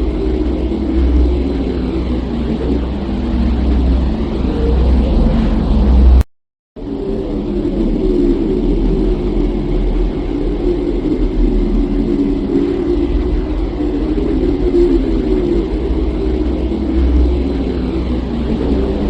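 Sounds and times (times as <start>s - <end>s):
deep rumbling drone: 0.0s - 19.0s.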